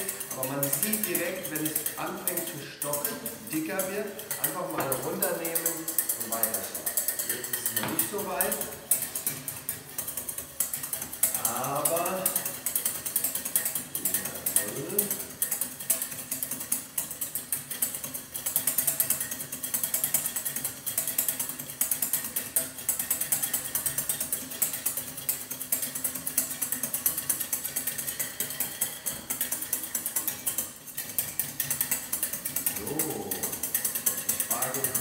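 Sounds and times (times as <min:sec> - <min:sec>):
whisk clattering against a pan: 0:00.0 - 0:35.0.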